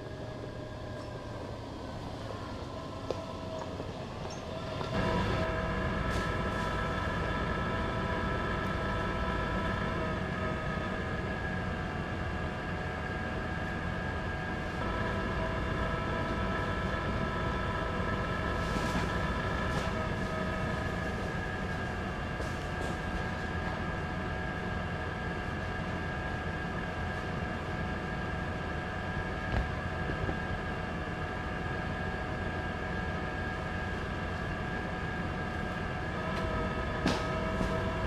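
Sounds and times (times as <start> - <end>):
car engine and tyres rumbling: 0.0 - 38.0
constant hum: 0.0 - 38.0.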